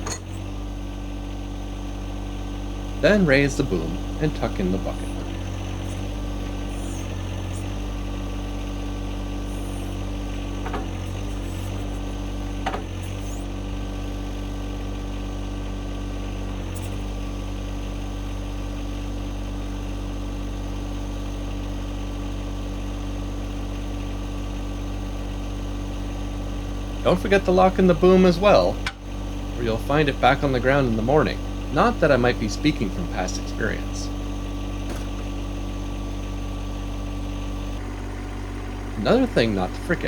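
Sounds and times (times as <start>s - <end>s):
backhoe hydraulics: 0.0s - 20.2s, 25.2s - 40.0s
tractor diesel engine running: 0.0s - 40.0s.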